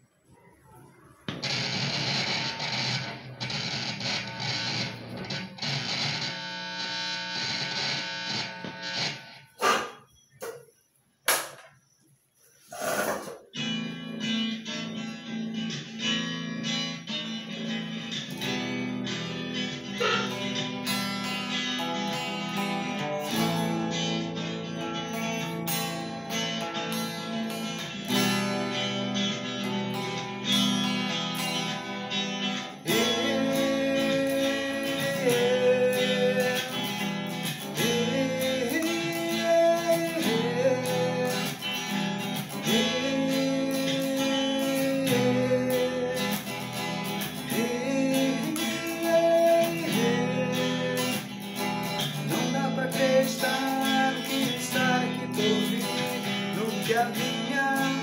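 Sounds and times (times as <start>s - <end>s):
sliding electric guitar melody: 1.3s - 9.5s, 13.5s - 58.0s
electric guitar chords strummed: 1.3s - 9.8s, 13.5s - 58.0s.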